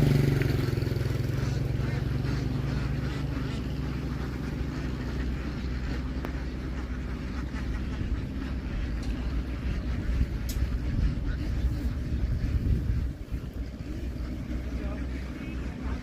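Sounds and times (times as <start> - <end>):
engine droning: 0.0 - 16.0
flock of ducks chattering: 0.0 - 16.0.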